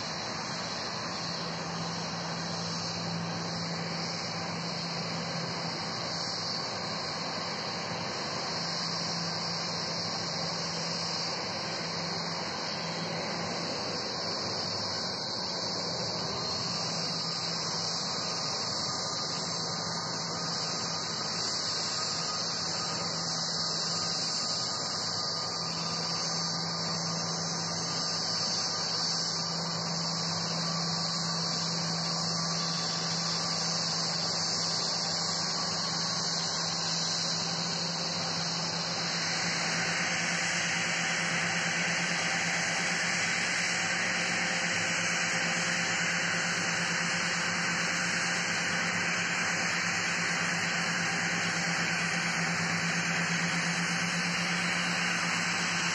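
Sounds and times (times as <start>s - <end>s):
jet engines idling: 0.0s - 55.9s.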